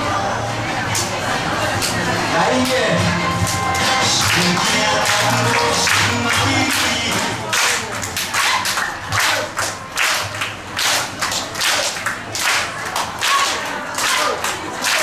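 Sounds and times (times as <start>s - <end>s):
rhythmic hand clapping: 2.6s - 15.0s.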